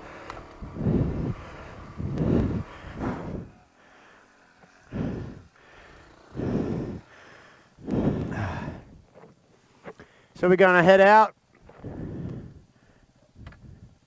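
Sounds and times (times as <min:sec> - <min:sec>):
person breathing heavily: 0:00.0 - 0:09.1, 0:09.8 - 0:10.4, 0:11.7 - 0:14.0.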